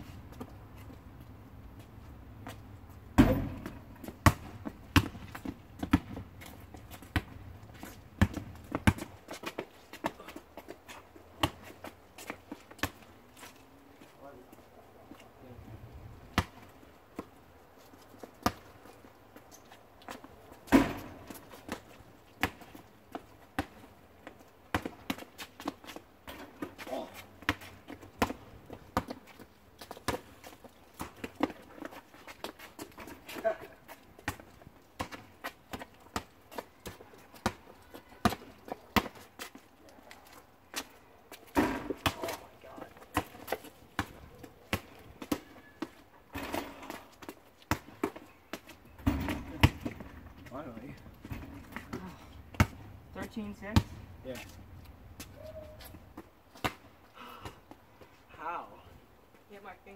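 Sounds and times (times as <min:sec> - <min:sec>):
basketball bouncing on asphalt: 0:02.4 - 0:13.2, 0:16.3 - 0:17.4, 0:18.1 - 0:18.8, 0:20.1 - 0:39.6, 0:40.7 - 0:54.2, 0:55.2 - 0:58.1.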